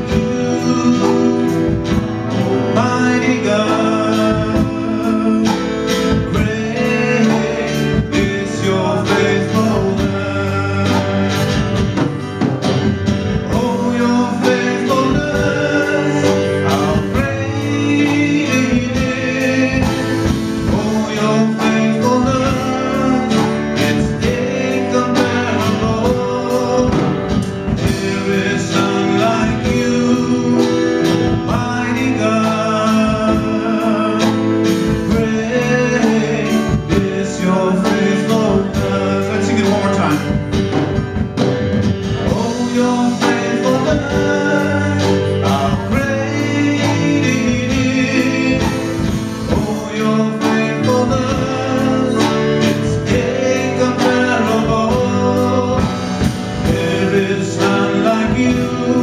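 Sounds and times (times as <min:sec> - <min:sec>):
electric and acoustic guitars: 0:00.0 - 0:59.0
steady drum beat: 0:00.0 - 0:59.0
vocalists singing: 0:00.0 - 0:59.0.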